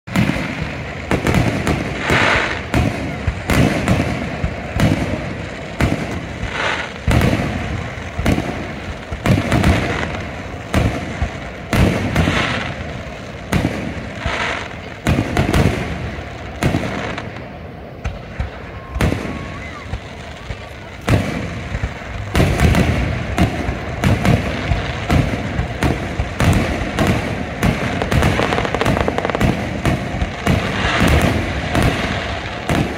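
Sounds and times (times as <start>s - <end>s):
fireworks crackle: 0.0s - 32.9s
firework shells booming: 0.1s - 32.9s.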